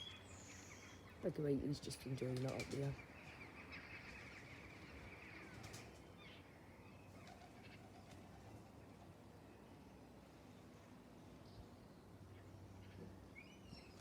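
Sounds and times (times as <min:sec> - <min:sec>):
faint bird chirps: 0:00.0 - 0:01.3, 0:02.9 - 0:14.0.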